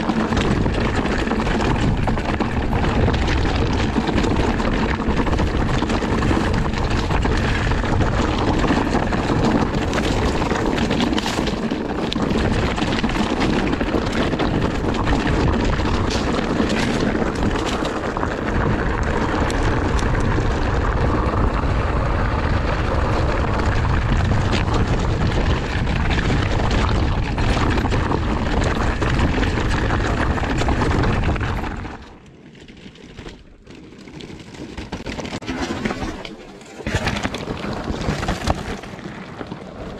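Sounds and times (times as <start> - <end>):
wind rush on microphone: 0.0 - 32.2
bike knocks and rattles: 0.0 - 39.9
tyres on rock: 0.0 - 39.9.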